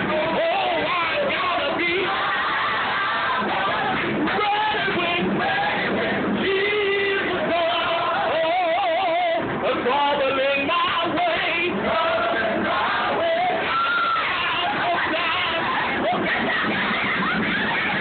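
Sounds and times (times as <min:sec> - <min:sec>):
gospel choir singing: 0:00.0 - 0:18.0.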